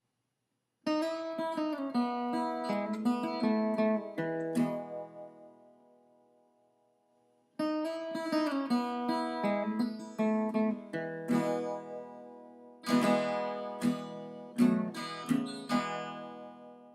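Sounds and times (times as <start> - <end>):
acoustic guitar playing: 0.8 - 6.5, 7.6 - 16.9.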